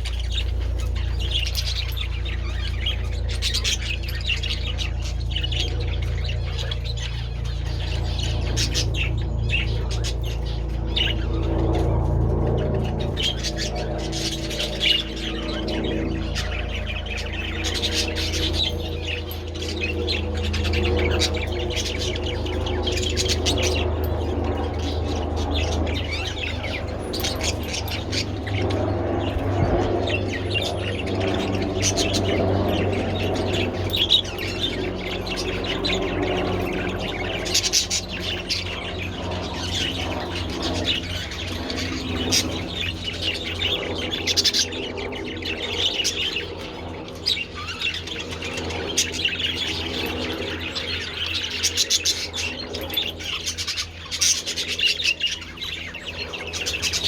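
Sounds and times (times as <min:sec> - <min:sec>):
budgerigars chattering and chirping: 0:00.0 - 0:57.0
steady low hum: 0:00.0 - 0:57.0.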